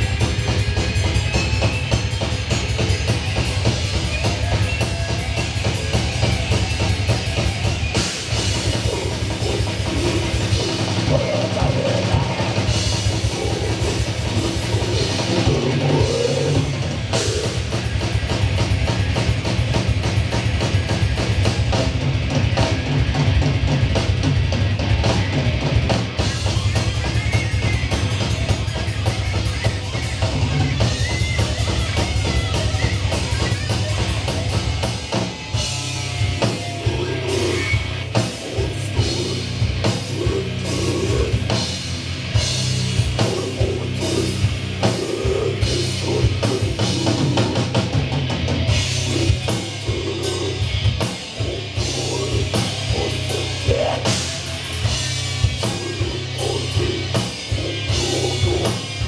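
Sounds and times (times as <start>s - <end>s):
fast drumming: 0.0s - 59.0s
heavy metal band playing live: 0.0s - 59.0s.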